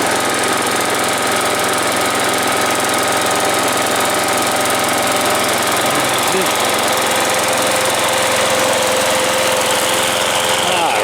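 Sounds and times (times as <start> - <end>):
lawnmower engine running: 0.0 - 11.0.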